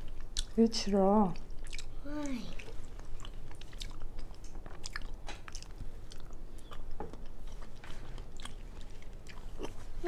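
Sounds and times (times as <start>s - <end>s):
person chewing food: 0.0s - 0.6s, 1.4s - 10.0s.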